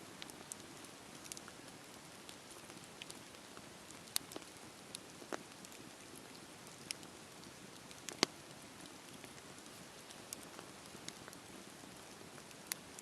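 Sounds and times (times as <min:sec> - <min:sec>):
fire crackling and popping: 0:00.0 - 0:13.0
campfire hissing: 0:00.1 - 0:13.0.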